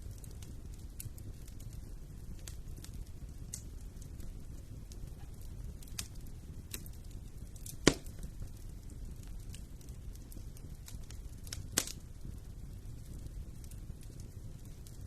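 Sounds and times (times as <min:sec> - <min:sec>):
fire pops and crackles: 0:00.0 - 0:15.0
wood fire rumbling: 0:00.0 - 0:15.0.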